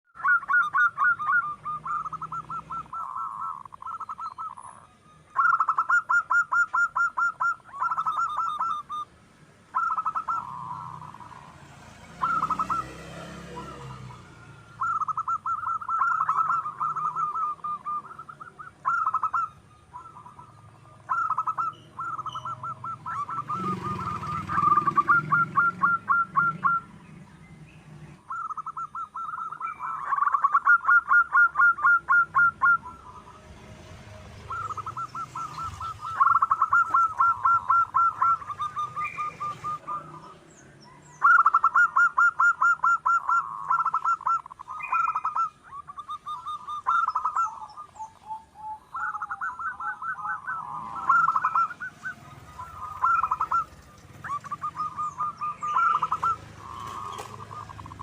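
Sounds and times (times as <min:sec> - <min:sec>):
doves cooing: 0:00.1 - 0:58.0.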